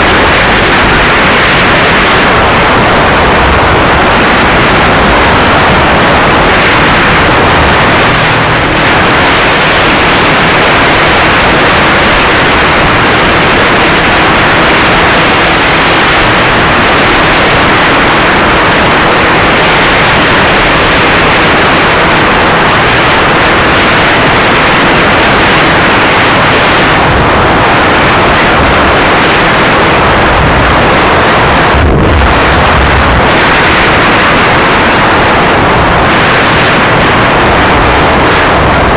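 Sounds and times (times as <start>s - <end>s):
motorcycle road noise: 0.0s - 38.9s
wind rush: 0.0s - 38.9s.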